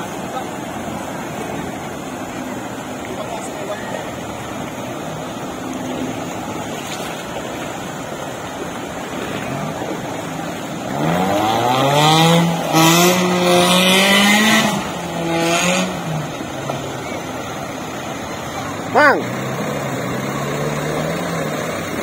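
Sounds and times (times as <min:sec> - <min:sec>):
off-road vehicle engine revving: 0:00.0 - 0:22.0
river water rushing: 0:00.0 - 0:22.0.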